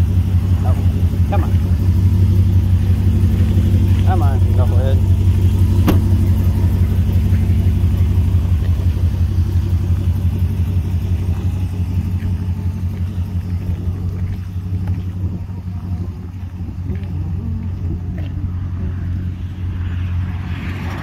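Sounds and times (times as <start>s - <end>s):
pickup truck exhaust idling: 0.0s - 20.7s.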